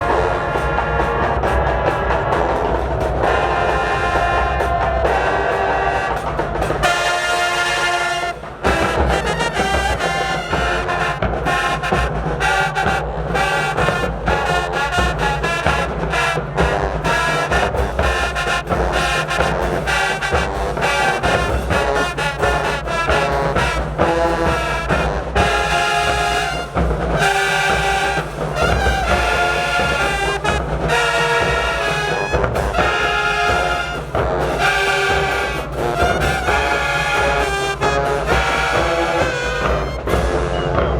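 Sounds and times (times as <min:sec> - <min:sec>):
marching band brass chords: 0:00.0 - 0:40.9.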